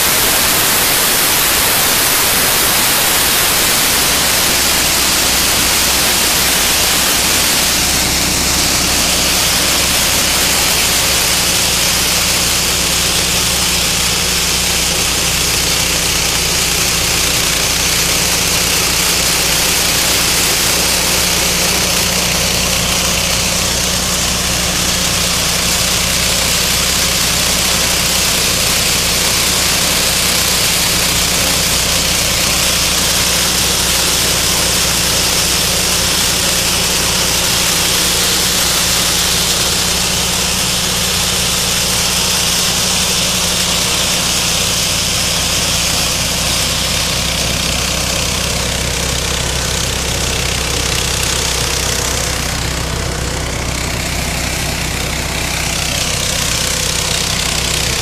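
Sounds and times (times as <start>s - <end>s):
harvester engine humming: 0.0s - 58.0s.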